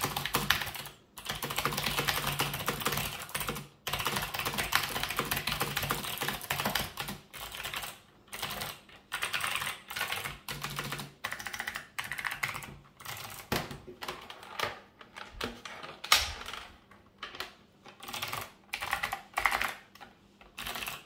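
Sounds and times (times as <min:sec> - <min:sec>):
clicky keyboard typing: 0:00.0 - 0:21.0.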